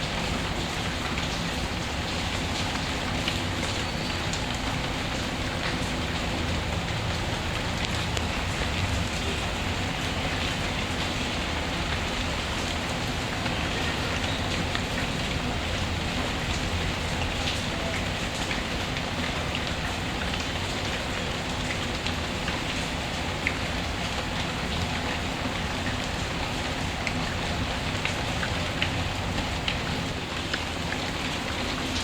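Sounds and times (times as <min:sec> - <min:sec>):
small ticks and drips: 0:00.0 - 0:32.0
steady rain: 0:00.0 - 0:32.0.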